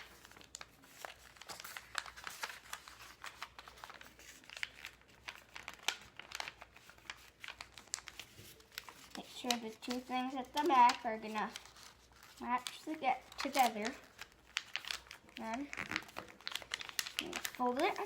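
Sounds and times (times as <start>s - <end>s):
paper crinkling: 0.0s - 18.0s.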